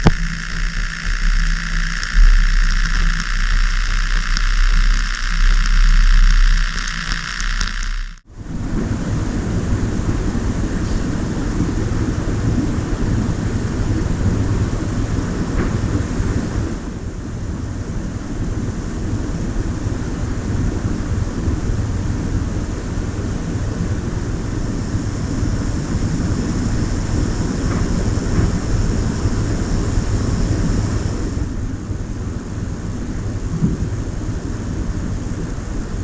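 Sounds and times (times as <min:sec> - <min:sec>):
camera recording noise hiss: 0:00.0 - 0:36.0.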